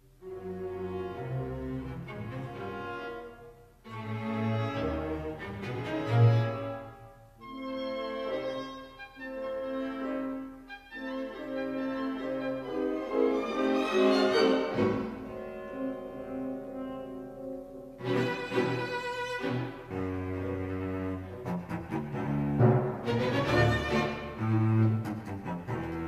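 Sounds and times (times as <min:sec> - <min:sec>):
cello and orchestral strings: 0:00.0 - 0:26.0.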